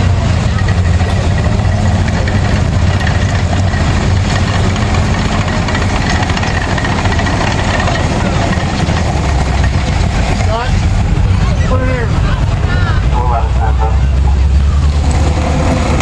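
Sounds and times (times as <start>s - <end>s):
armored vehicle engine running: 0.0s - 16.0s.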